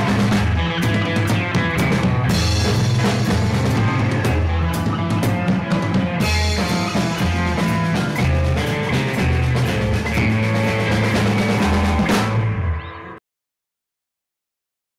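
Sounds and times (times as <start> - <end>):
rock band music: 0.0 - 13.2.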